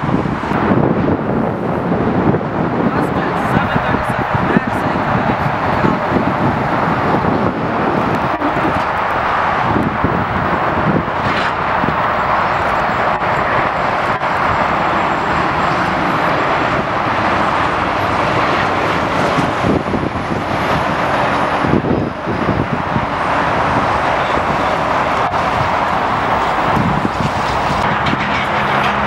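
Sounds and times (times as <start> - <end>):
jet engine rush: 0.0 - 29.0.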